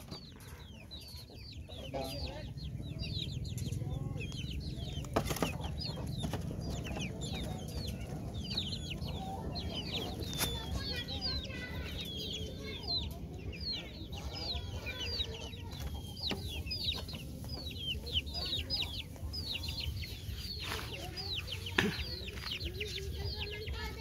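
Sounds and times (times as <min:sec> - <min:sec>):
chicks peeping: 0:00.0 - 0:24.0
hen clucking: 0:00.0 - 0:24.0.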